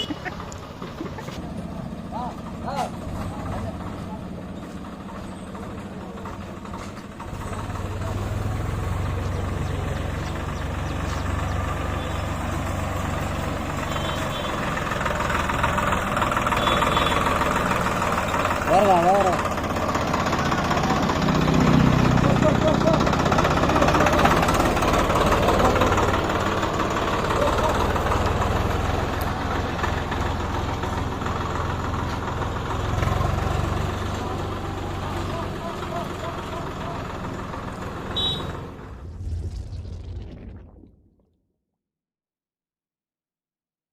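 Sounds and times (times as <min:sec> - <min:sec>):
tractor diesel engine under load: 0:00.0 - 0:39.7.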